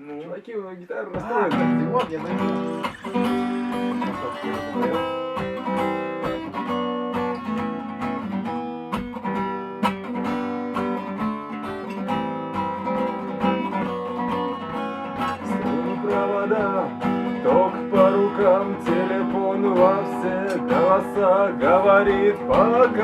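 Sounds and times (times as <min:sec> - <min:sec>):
acoustic guitar strummed: 0:01.2 - 0:23.0.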